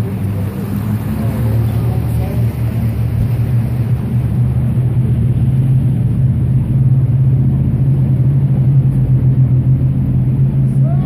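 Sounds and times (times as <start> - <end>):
boat engine droning: 0.0 - 11.0
rushing water: 0.0 - 11.0.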